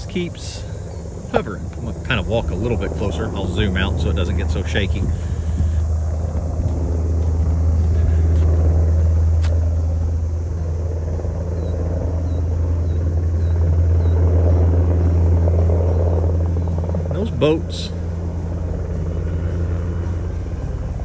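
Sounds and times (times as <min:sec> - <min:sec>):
helicopter rotor rumble: 0:00.0 - 0:21.0.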